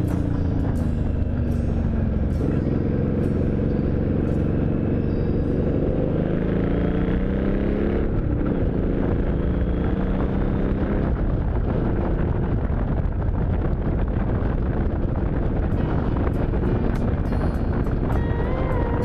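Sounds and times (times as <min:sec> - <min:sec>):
motorcycle engine: 0:00.0 - 0:19.0
wind on microphone: 0:00.0 - 0:19.0.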